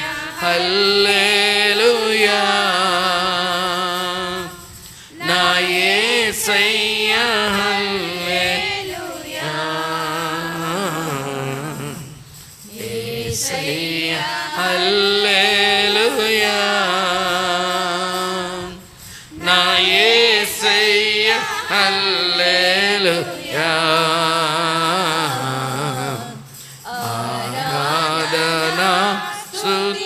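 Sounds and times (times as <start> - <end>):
women singing worship song: 0.0 - 12.0, 12.6 - 30.0.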